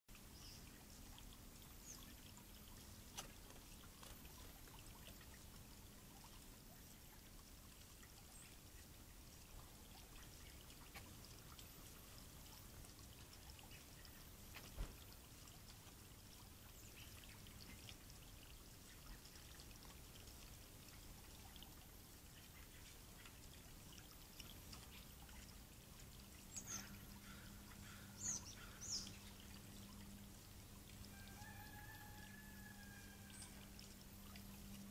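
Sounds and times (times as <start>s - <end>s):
fountain water trickling into basin: 0.1s - 34.9s.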